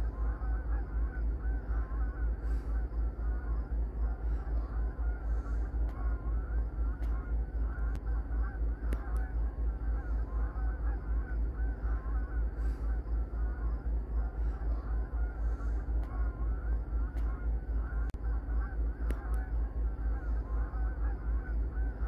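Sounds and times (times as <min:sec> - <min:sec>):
geese honking: 0:00.0 - 0:22.0
low pulsing rumble: 0:00.0 - 0:22.0.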